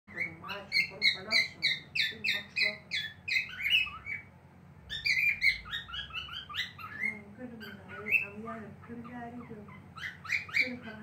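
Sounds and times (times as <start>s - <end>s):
cockatiel chirping: 0.1s - 4.3s, 4.9s - 11.0s.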